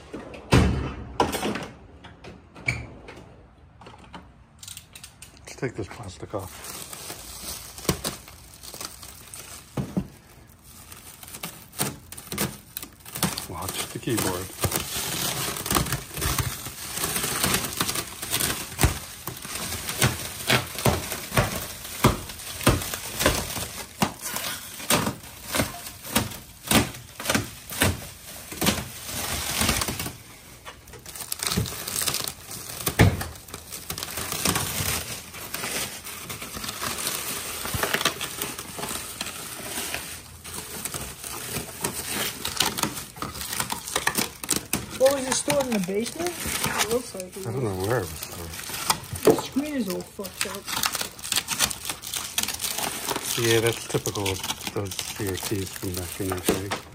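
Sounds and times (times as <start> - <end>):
plastic wrap crinkling and snapping: 4.6 - 56.9.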